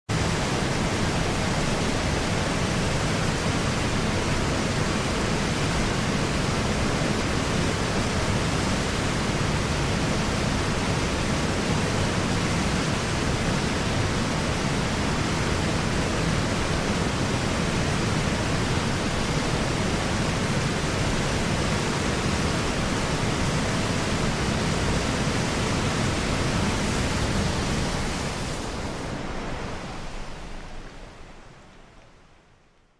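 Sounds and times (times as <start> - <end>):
waterfall rushing: 0.1 - 31.9.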